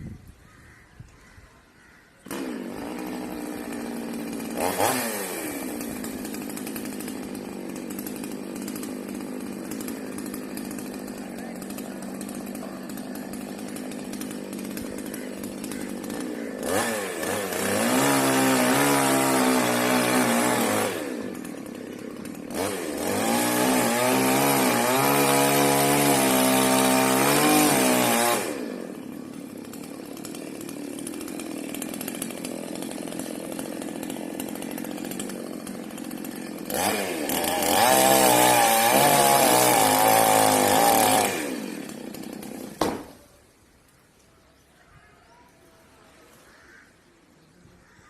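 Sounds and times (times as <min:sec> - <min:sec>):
chainsaw engine revving: 0:02.2 - 0:43.4.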